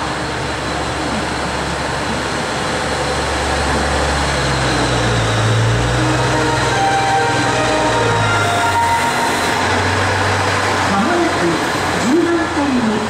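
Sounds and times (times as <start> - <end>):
train engine hum: 0.0 - 13.0.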